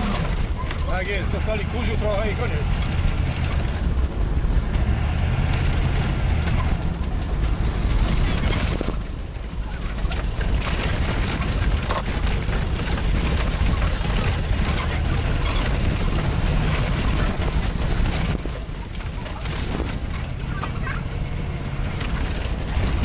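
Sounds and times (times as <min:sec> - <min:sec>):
body knocks and rattles: 0:00.0 - 0:23.0
vehicle engine and road rumble: 0:00.0 - 0:23.0.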